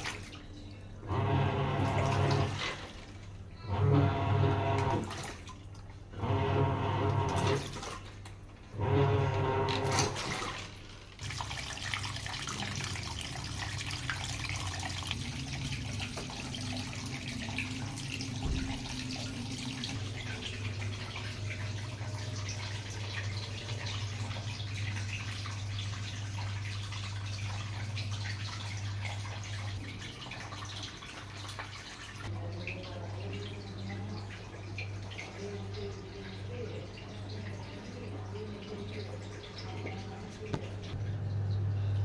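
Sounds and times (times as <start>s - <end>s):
electrical hum: 0.0s - 31.3s, 32.2s - 42.0s
washing machine running water: 0.0s - 42.0s.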